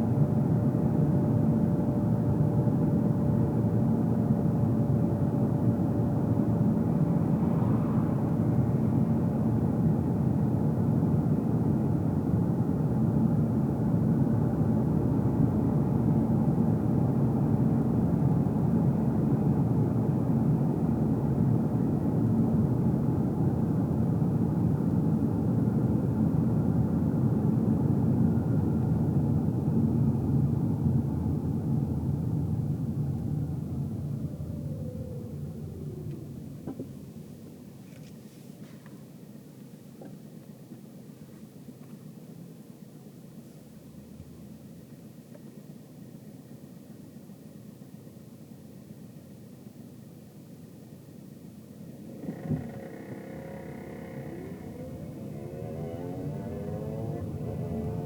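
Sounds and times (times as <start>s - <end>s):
car tyres and engine rumbling: 0.0s - 48.9s, 51.0s - 58.0s
faint steady hum: 0.0s - 58.0s.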